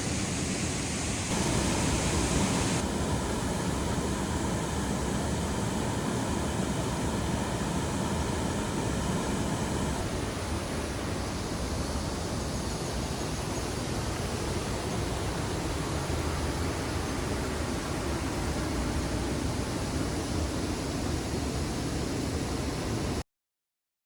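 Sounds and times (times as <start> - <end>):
steady rushing noise: 0.0 - 23.2.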